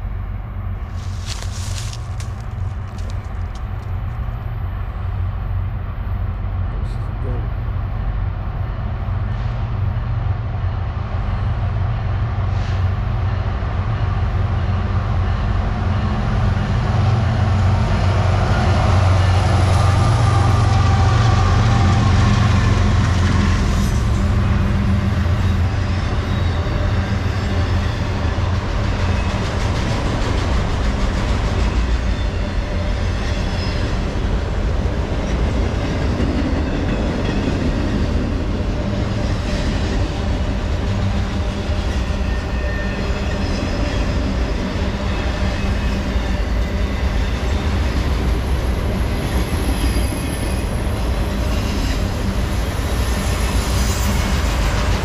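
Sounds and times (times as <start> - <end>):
diesel locomotives passing: 0.0 - 55.0
train wheels rumbling on rails: 0.0 - 55.0.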